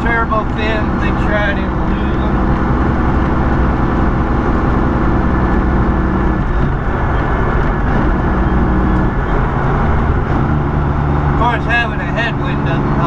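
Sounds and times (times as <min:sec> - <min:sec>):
diesel truck engine running: 0:00.0 - 0:13.0
road and wind noise: 0:00.0 - 0:13.0.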